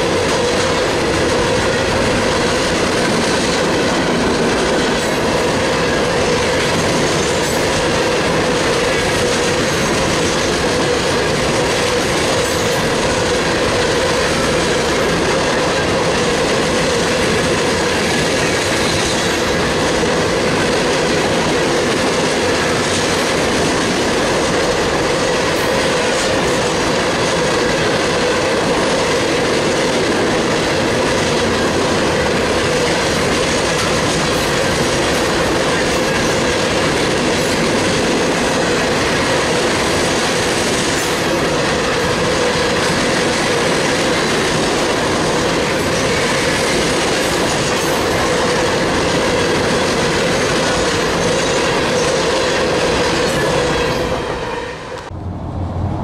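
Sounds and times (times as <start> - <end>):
steel wheels running on rails: 0.0 - 56.0.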